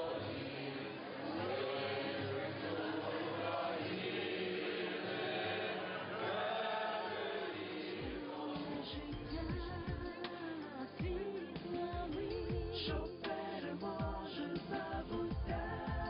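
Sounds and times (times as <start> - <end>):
choir singing a slow chant: 0.0 - 16.0.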